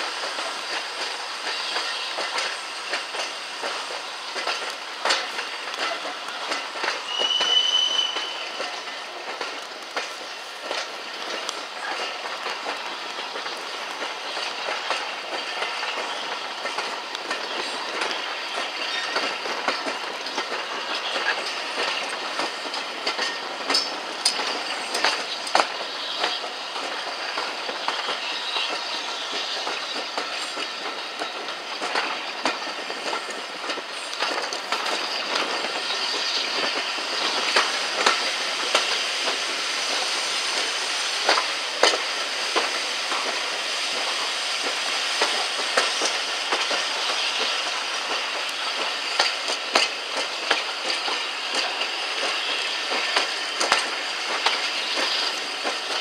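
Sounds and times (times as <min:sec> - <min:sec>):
train carriages rolling: 0:00.0 - 0:56.0
wheels clicking over rail joints: 0:00.0 - 0:56.0.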